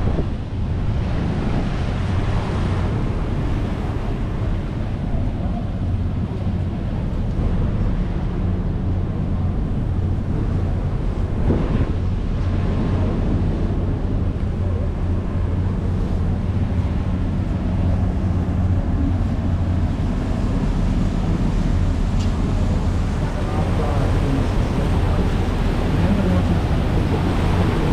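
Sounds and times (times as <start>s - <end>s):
boat engine droning: 0.0s - 27.9s
rushing wind: 0.0s - 27.9s
water noise: 0.0s - 27.9s.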